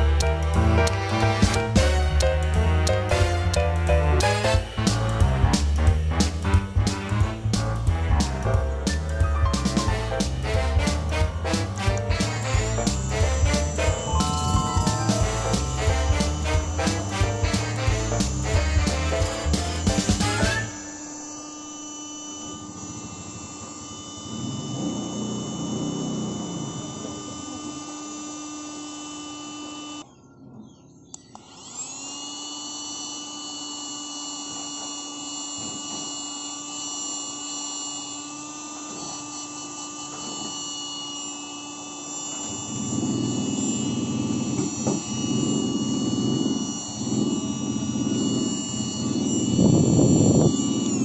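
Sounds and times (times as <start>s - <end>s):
handheld vacuum motor whining: 0.0s - 7.6s, 8.4s - 51.0s.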